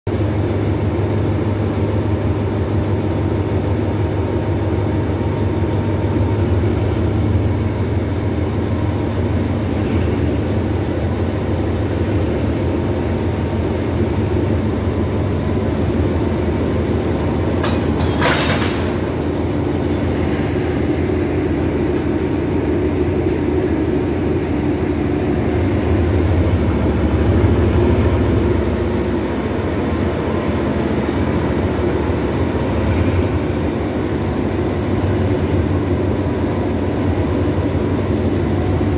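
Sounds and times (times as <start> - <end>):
diesel locomotive engine hum: 0.0 - 38.9.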